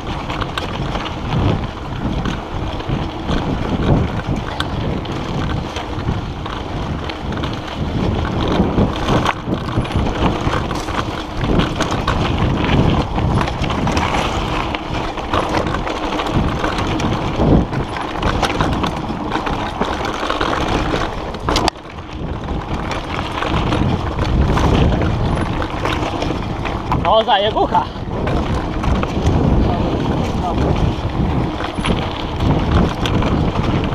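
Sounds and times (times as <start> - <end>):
bike frame rattling: 0.0 - 33.9
bike tyres on rough ground: 0.0 - 33.9
wind on microphone: 0.0 - 33.9.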